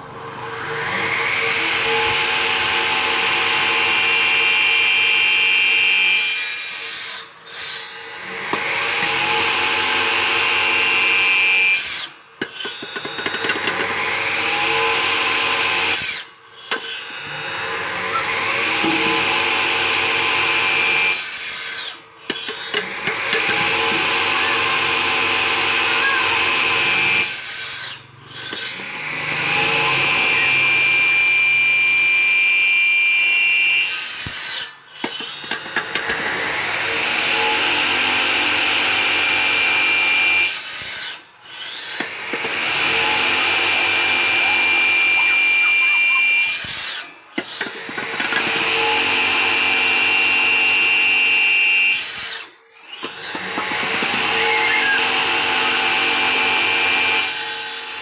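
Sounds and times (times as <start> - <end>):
machine sawing bamboo: 0.2 - 32.4, 33.8 - 58.0.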